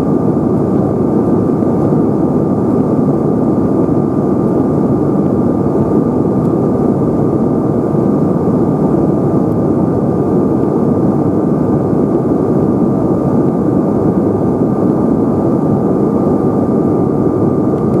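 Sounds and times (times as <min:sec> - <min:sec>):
jet engines rushing in cabin: 0:00.0 - 0:18.0
thin steady engine whine: 0:00.0 - 0:18.0.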